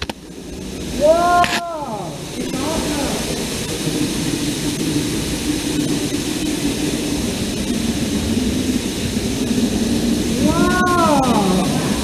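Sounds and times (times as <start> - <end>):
waterfall rushing in cave: 0.0 - 12.0.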